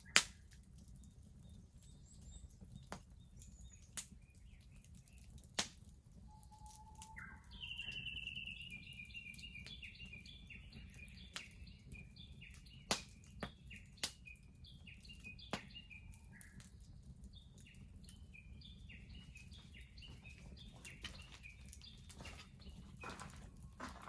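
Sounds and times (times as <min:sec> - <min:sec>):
bonfire crackling: 0:00.0 - 0:24.0
small birds chirping: 0:00.0 - 0:24.0.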